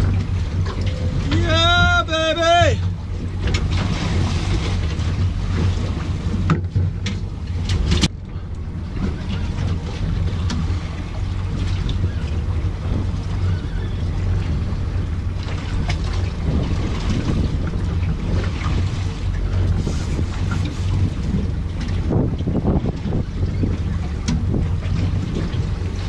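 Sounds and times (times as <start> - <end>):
steady low hum: 0.0 - 26.0
water noise: 0.0 - 26.0
wind on microphone: 0.0 - 26.0.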